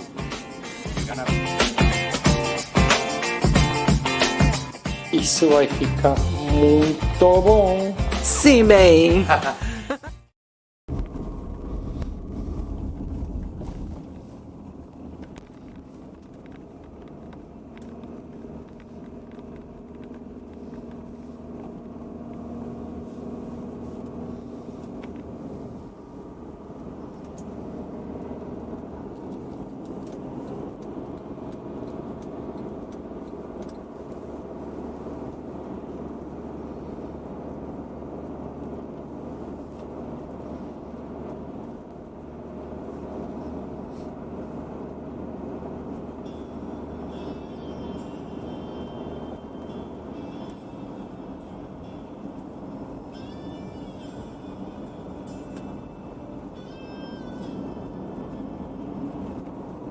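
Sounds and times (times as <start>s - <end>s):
car engine: 0.0s - 10.0s, 10.9s - 59.9s
road rumble: 0.0s - 10.2s, 10.9s - 59.9s.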